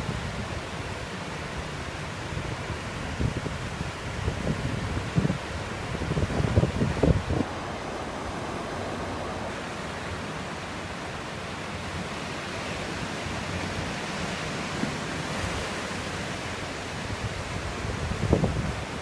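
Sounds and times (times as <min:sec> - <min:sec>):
ocean surf rushing: 0:00.0 - 0:19.0
wind noise on microphone: 0:00.0 - 0:19.0.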